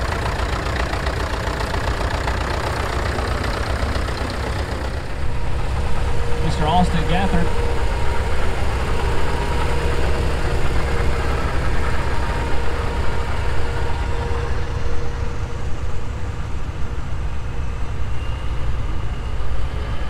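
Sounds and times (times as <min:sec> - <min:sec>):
tractor engine running: 0:00.0 - 0:17.6
continuous low rumble: 0:00.0 - 0:20.0.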